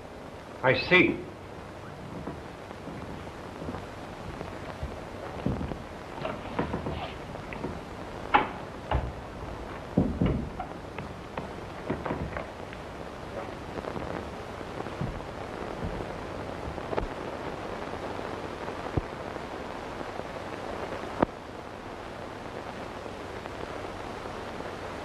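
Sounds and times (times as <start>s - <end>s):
film soundtrack hiss: 0.0s - 25.0s.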